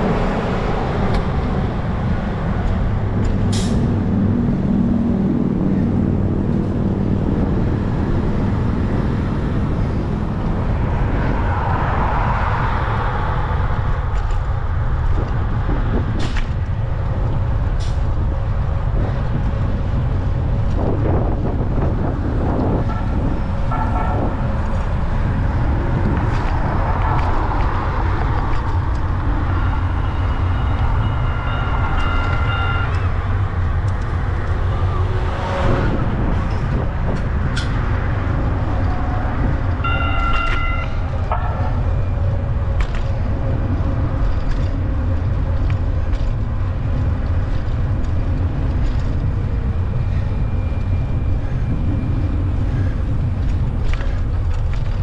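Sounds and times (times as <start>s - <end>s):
passing traffic: 0.0s - 55.0s
wind rumble on microphone: 0.0s - 55.0s.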